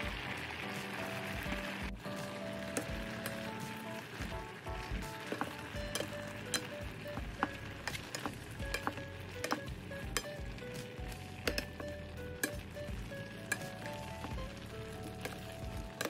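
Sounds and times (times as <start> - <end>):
vegetables sizzling: 0.0 - 16.0.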